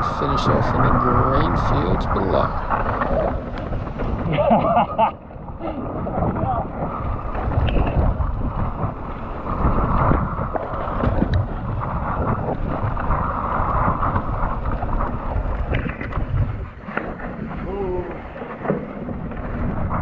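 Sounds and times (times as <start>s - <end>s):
bike tyres rolling on dirt: 0.0s - 20.0s
wind buffeting microphone: 0.0s - 20.0s.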